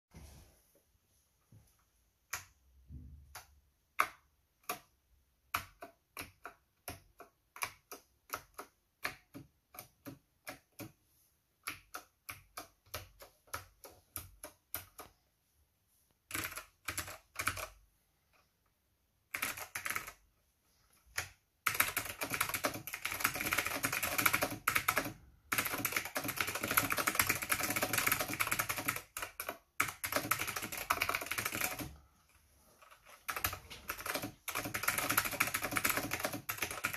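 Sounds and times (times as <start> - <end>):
typing on clicky keyboard: 2.2 - 15.2, 16.2 - 17.9, 19.2 - 20.3, 21.1 - 32.0, 32.8 - 36.9.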